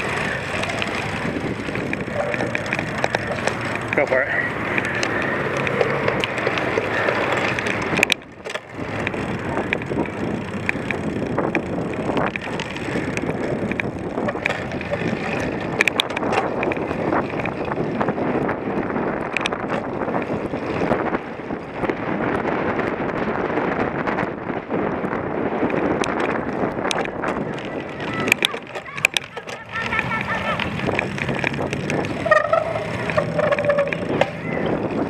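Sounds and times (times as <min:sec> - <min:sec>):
bike rattling clicks: 0:00.0 - 0:35.0
wind buffeting microphone: 0:00.0 - 0:35.0.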